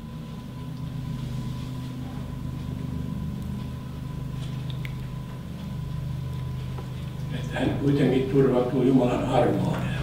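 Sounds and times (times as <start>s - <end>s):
faint high whine: 0.0s - 10.0s
low machine hum: 0.0s - 10.0s.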